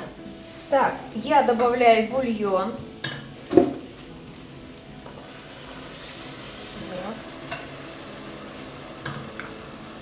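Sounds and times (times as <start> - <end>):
meat sizzling in a pot: 0.0 - 10.0.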